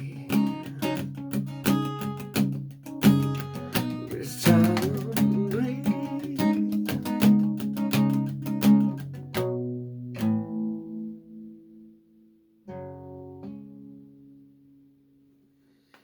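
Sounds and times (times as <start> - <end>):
strummed acoustic guitar chords: 0.0 - 14.8.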